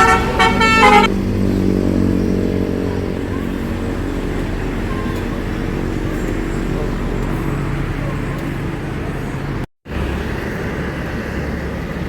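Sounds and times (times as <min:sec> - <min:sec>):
large vehicle engine rumbling: 0:00.0 - 0:12.0
road traffic: 0:00.0 - 0:12.0.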